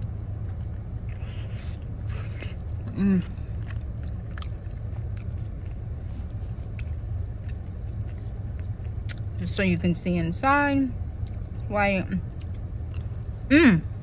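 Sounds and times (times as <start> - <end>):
crackly chewing of fried food: 0.0 - 9.5, 10.9 - 14.0
steady low hum: 0.0 - 14.0.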